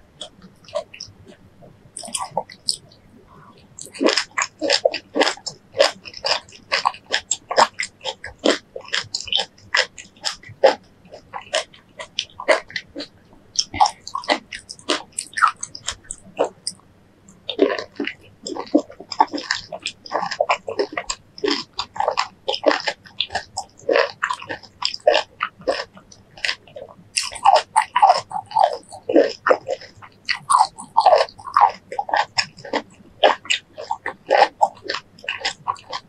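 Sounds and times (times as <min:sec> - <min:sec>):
wet bites and chewing: 0:02.0 - 0:02.9, 0:03.8 - 0:36.0.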